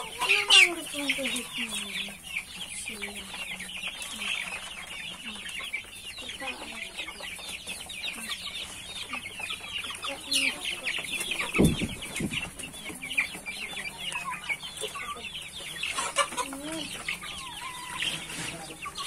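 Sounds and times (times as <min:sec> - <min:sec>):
chickens clucking: 0:00.0 - 0:19.0
chicks cheeping: 0:00.0 - 0:19.0.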